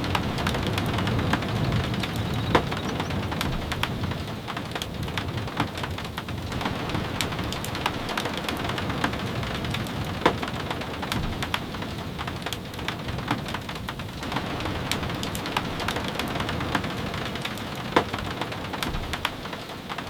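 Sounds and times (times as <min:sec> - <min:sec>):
sharp taps of raindrops: 0:00.0 - 0:20.0
steady rain: 0:00.0 - 0:20.0.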